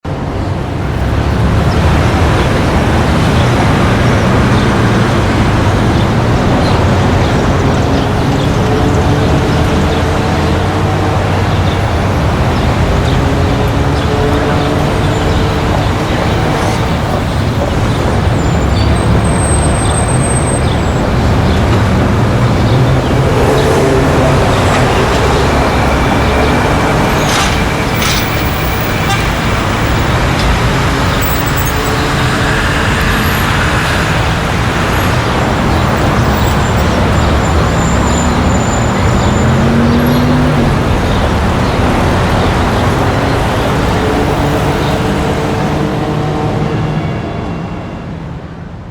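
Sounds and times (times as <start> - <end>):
passing cars: 0.0 - 48.9
rising engine tone: 0.9 - 48.1.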